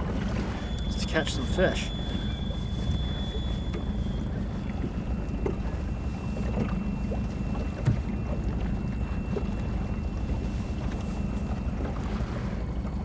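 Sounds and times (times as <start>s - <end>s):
wind rumble on microphone: 2.1s - 13.0s.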